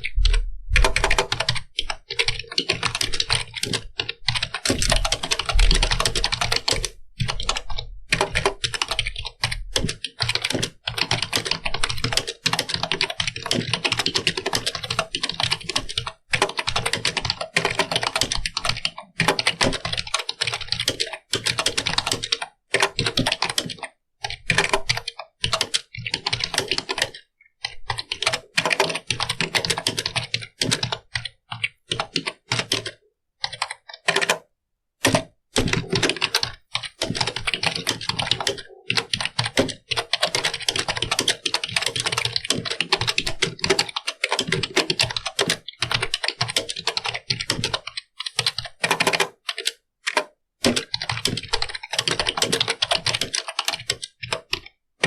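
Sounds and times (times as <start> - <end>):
typing on computer keyboard: 0.0 - 54.8.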